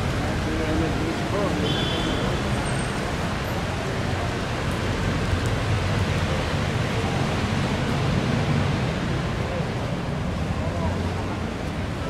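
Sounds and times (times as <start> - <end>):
rain falling on street: 0.0 - 12.0
road traffic rumble: 0.0 - 12.0.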